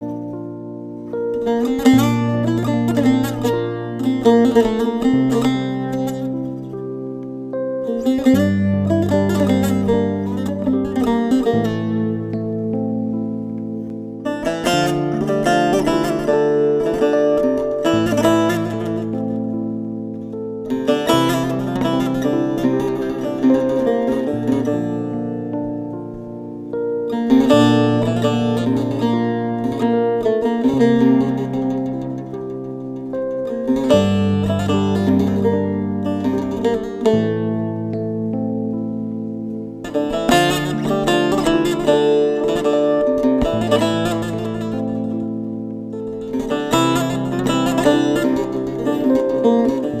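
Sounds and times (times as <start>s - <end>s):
acoustic guitar music with bass: 0.0s - 50.0s.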